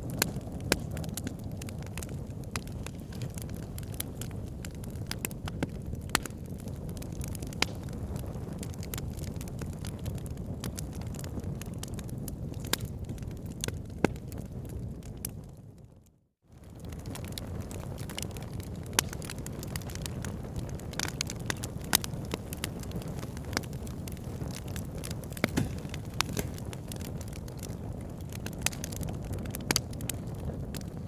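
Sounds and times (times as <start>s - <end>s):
fire crackling and popping: 0.0s - 15.8s, 16.5s - 31.0s
low rumble of flames: 0.0s - 31.0s.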